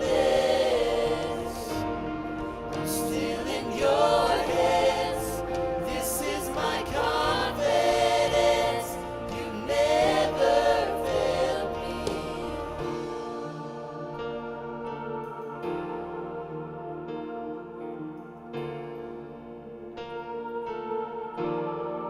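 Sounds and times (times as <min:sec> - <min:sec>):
choir singing: 0:00.0 - 0:22.0
sustained instrumental backing: 0:00.0 - 0:22.0.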